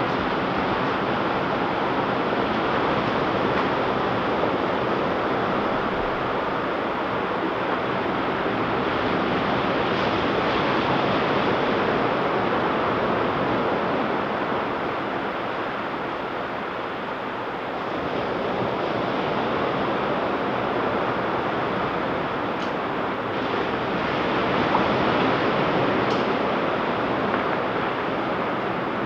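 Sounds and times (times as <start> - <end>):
ocean surf on a beach: 0.0 - 29.0.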